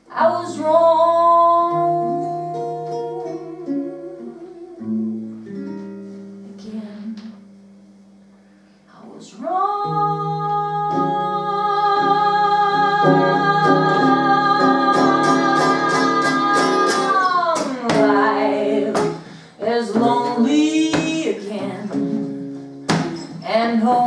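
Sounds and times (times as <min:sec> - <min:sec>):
acoustic guitar: 0:00.0 - 0:24.0
woman singing jazz ballad: 0:00.1 - 0:05.2, 0:06.5 - 0:07.5, 0:08.9 - 0:22.5, 0:23.4 - 0:24.0.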